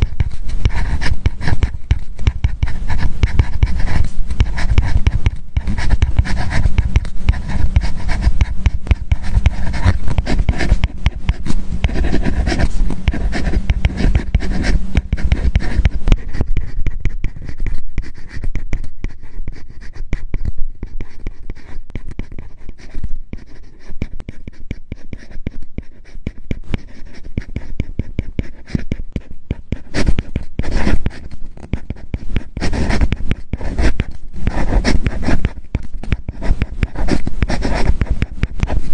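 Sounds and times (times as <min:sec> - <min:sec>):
stylus scratching on screen: 0:00.0 - 0:38.9.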